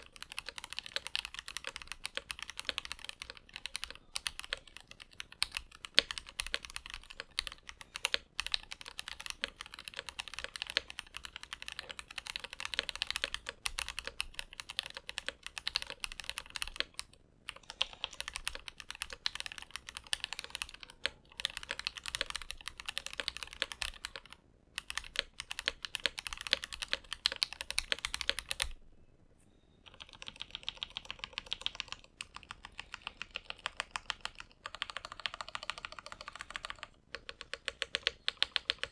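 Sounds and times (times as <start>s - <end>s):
fast mechanical keyboard typing: 0.0s - 28.8s, 29.9s - 38.9s.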